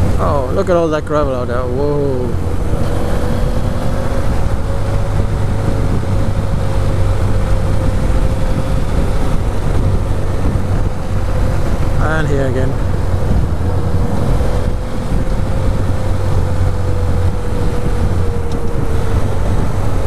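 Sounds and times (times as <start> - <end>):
motorcycle engine drone: 0.0 - 20.0
wind noise on microphone: 0.0 - 20.0.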